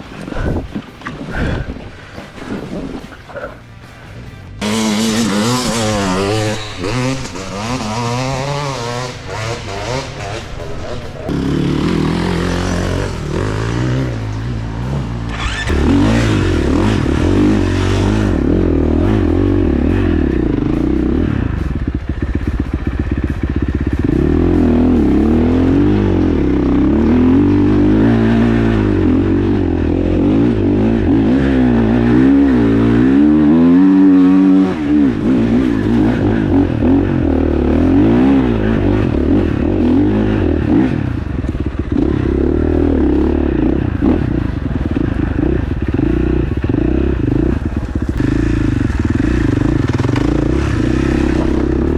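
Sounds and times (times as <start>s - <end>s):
motocross engine revving: 4.5s - 51.9s.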